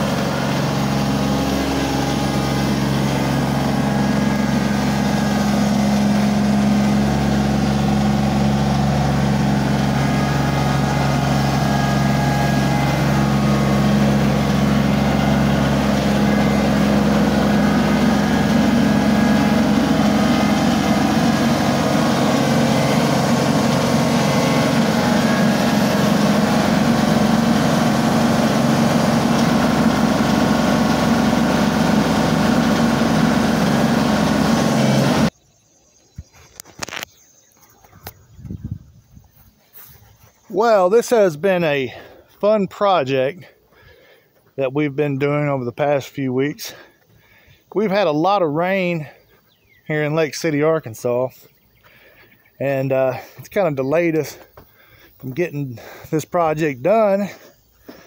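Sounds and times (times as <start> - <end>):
tractor engine running: 0.0 - 35.4, 37.7 - 58.0.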